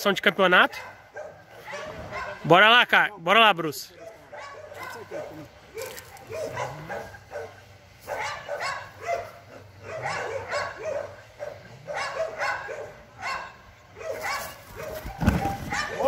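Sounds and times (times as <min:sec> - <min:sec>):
dog barking: 0:00.8 - 0:02.4, 0:04.0 - 0:16.0.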